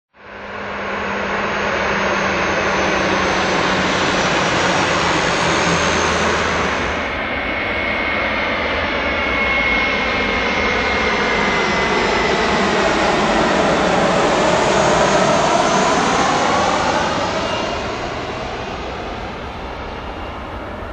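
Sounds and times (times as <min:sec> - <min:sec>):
high engine whine: 0:00.2 - 0:20.9
jet engines running: 0:00.2 - 0:20.9.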